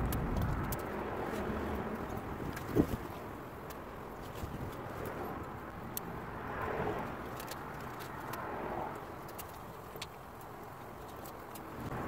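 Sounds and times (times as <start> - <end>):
sharp ticks of fire: 0.0 - 12.0
wood fire burning: 0.0 - 12.0.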